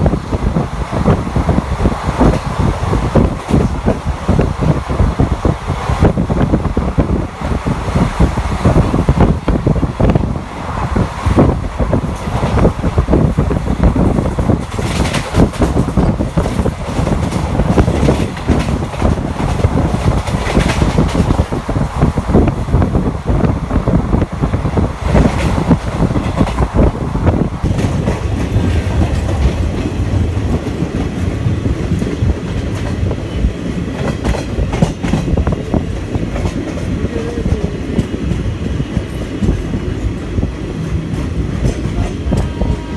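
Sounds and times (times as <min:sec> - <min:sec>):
wheels clattering over rail joints: 0:00.0 - 0:42.8
train rumble from on board: 0:00.0 - 0:42.9.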